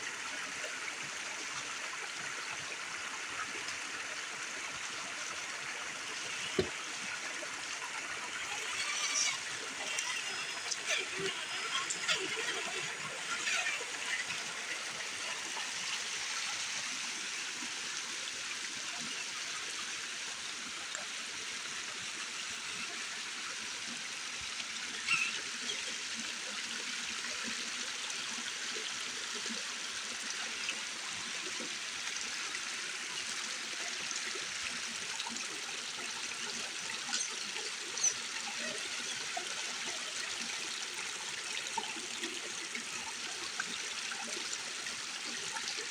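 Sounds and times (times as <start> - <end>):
creek water running: 0.0 - 45.9.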